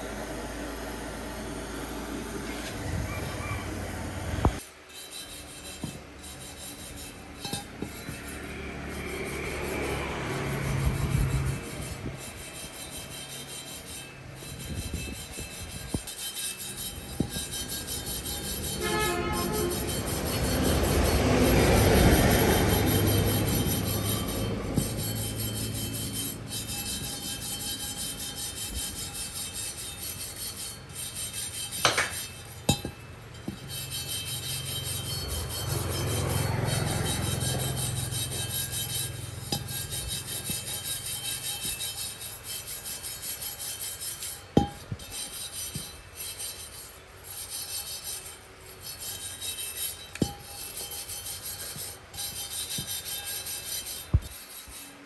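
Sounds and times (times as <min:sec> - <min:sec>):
rapid hand scraping: 0:04.4 - 0:55.0.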